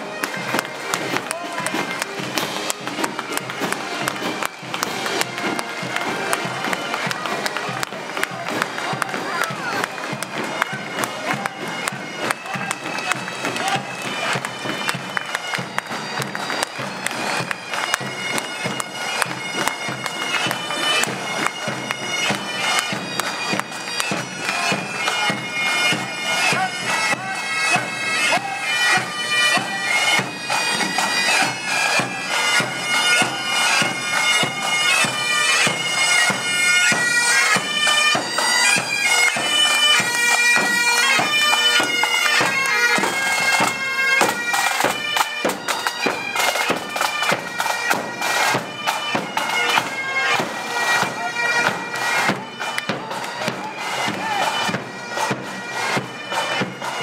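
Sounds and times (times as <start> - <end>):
bagpipes melody: 0.0 - 57.0.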